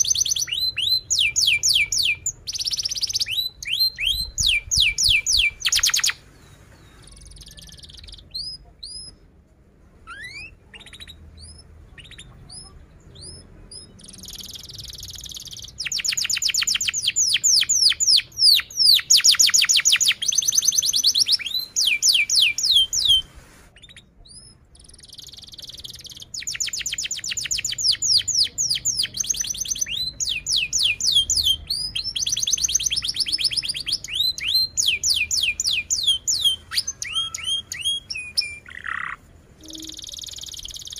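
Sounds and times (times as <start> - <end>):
canary singing trills: 0.0 - 9.4, 10.0 - 40.9.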